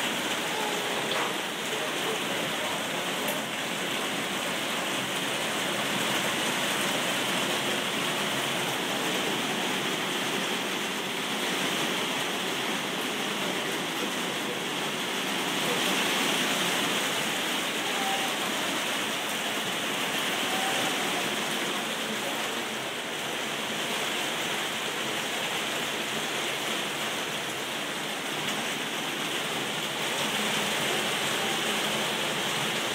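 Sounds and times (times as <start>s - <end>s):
rain falling: 0.0s - 32.9s.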